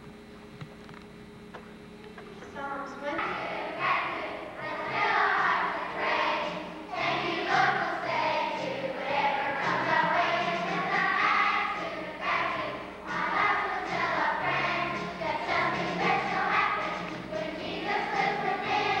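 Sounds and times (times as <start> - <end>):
children's choir singing: 3.2 - 19.0.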